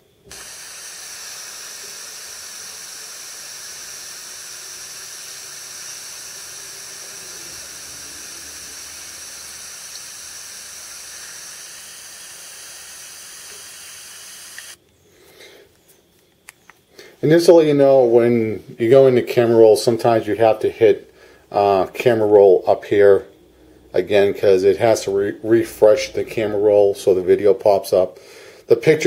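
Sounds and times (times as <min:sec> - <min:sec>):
steady speaker hiss: 0:00.0 - 0:29.0.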